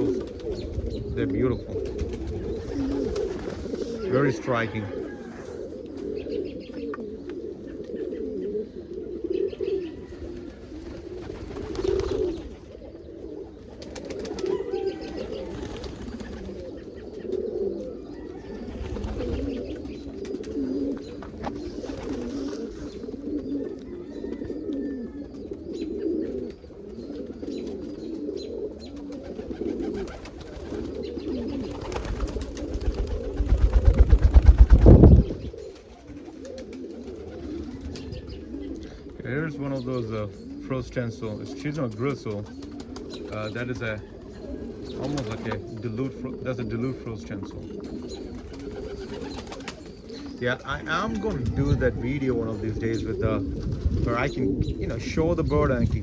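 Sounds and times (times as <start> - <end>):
pigeons cooing: 0.0 - 56.0.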